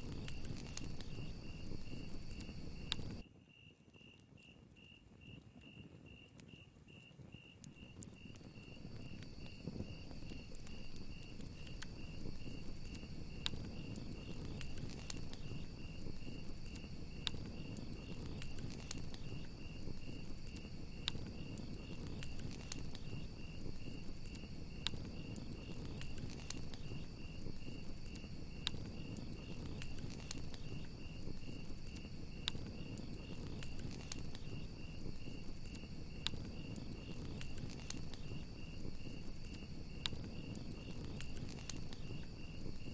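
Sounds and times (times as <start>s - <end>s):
crackling campfire: 0.0s - 42.9s
crickets chirping: 0.0s - 42.9s
high insect tone: 6.5s - 42.9s.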